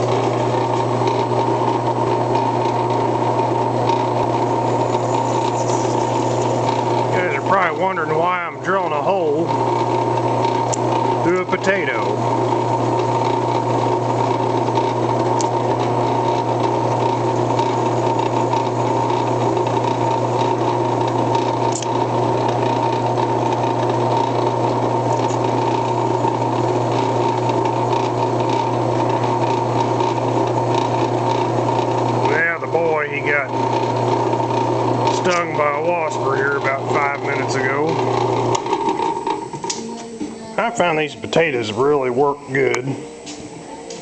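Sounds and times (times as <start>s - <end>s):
drill press boring into potato: 0.0s - 39.9s.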